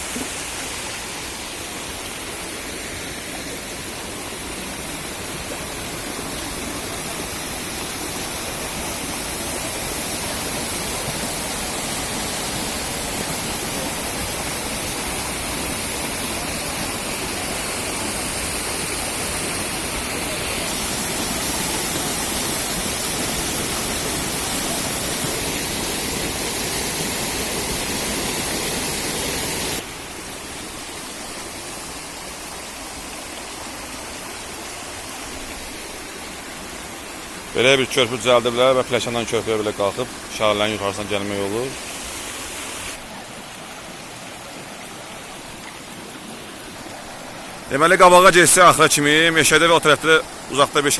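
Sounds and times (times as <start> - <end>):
waterfall rushing and splashing: 0.0 - 50.9.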